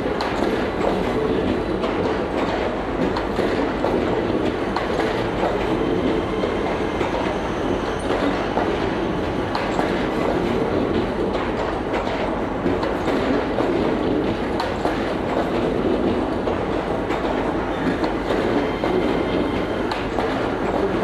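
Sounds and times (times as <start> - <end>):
faint clicks over rail joints: 0.0 - 7.4, 8.0 - 21.0
train wheels rumbling on rail: 0.0 - 21.0.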